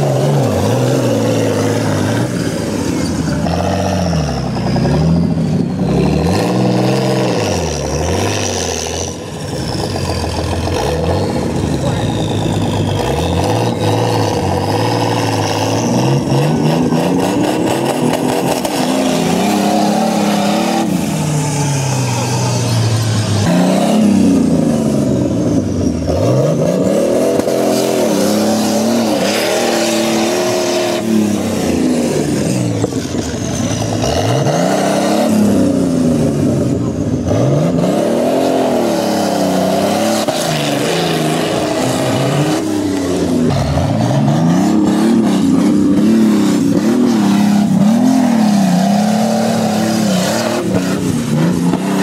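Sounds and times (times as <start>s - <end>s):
motorcycle engine revving hard: 0.0s - 52.0s.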